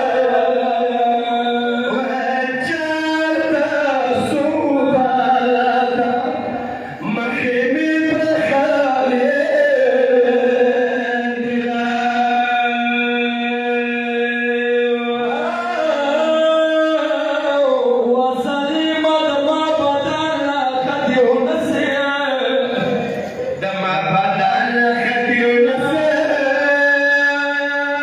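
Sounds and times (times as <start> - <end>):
man chanting: 0.0 - 28.0.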